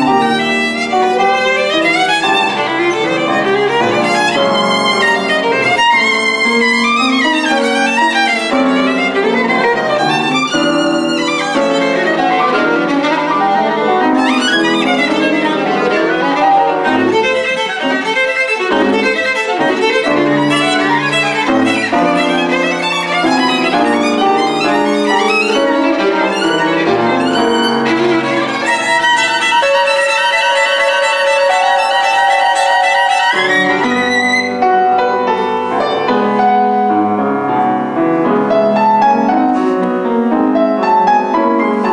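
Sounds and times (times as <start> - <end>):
piano accompaniment: 0.0 - 41.9
violin playing: 0.0 - 41.9.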